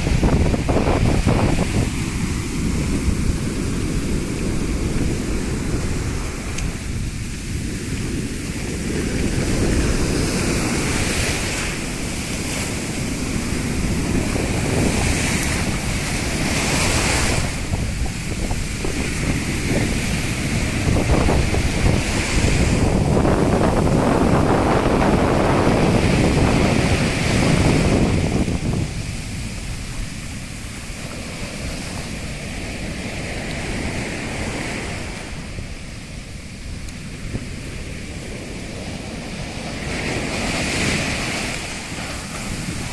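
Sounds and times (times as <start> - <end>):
rough sea waves breaking: 0.0 - 42.9
wind buffeting microphone: 0.0 - 42.9.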